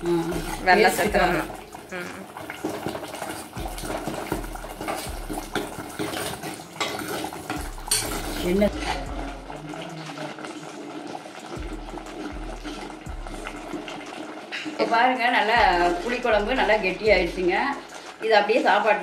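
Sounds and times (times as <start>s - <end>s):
ladle scraping clay pot: 0.0s - 18.3s
gravy bubbling: 0.0s - 19.0s.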